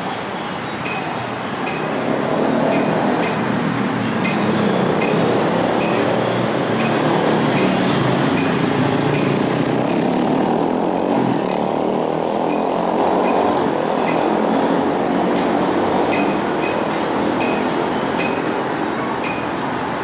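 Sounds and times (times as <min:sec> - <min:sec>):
freight train rumbling: 0:00.0 - 0:20.0.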